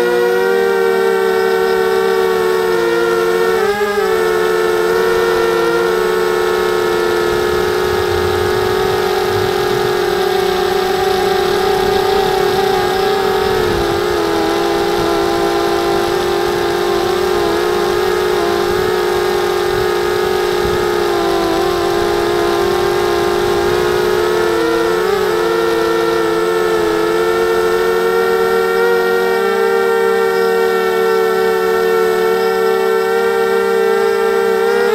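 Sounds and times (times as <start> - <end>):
quadcopter motors whining: 0.0 - 34.9.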